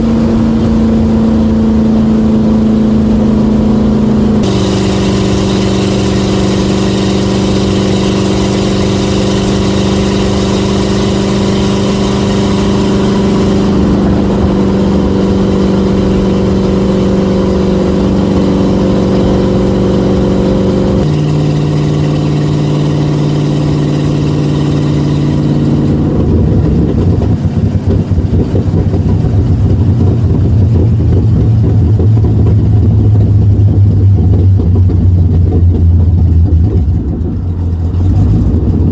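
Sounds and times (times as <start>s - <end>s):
car engine exhaust note: 0.0s - 38.9s.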